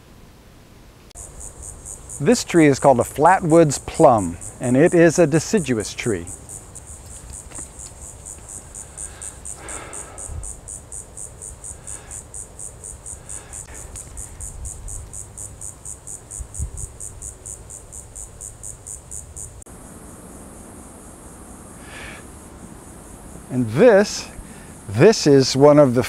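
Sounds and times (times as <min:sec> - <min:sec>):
insects chirping: 0:01.1 - 0:26.0
steady high buzz: 0:01.1 - 0:26.0.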